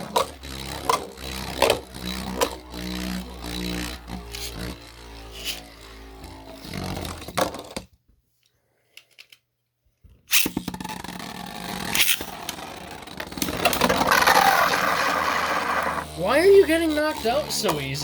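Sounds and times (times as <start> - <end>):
spinning tops clattering in plastic stadium: 0.0 - 7.8, 10.3 - 18.0.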